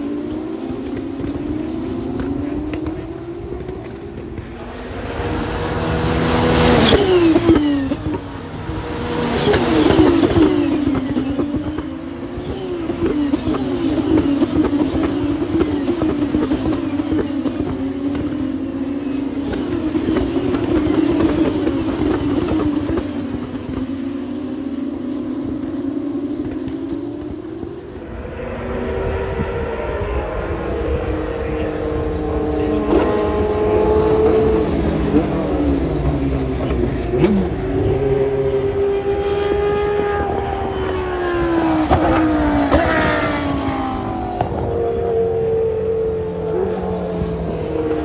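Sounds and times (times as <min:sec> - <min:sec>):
cars accelerating with upshifts: 0:00.0 - 0:48.0
engines running steadily: 0:00.0 - 0:48.0
race cars passing: 0:00.0 - 0:48.0.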